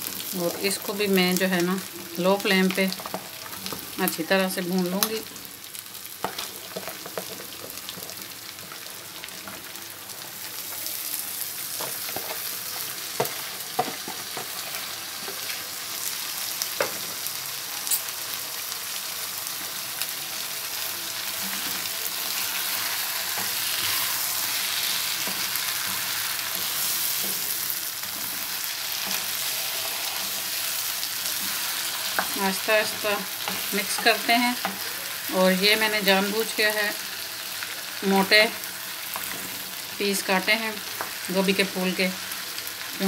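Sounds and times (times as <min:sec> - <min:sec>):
food sizzling in a frying pan: 0:00.0 - 0:43.0.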